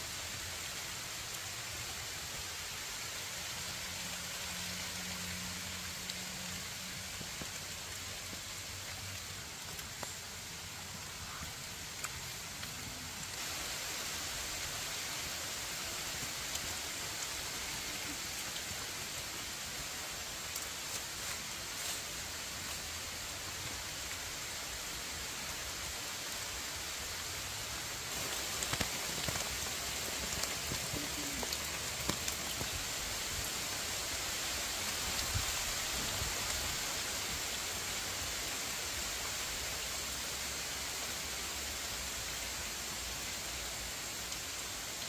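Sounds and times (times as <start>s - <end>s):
outdoor hiss: 0.0s - 45.0s.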